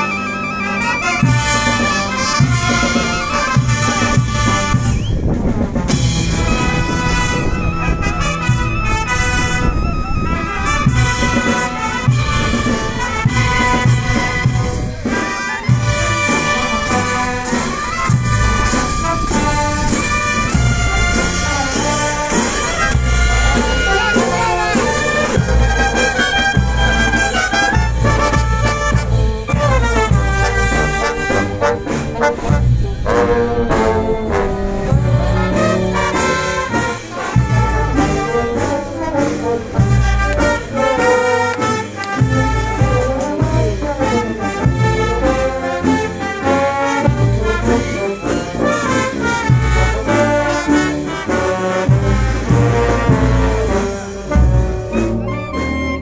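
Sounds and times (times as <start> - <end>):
brass band playing: 0.0 - 56.0.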